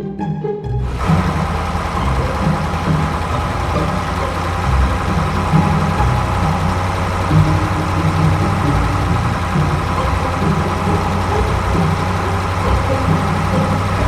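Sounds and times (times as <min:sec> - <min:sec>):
engine idling: 0:00.8 - 0:14.0.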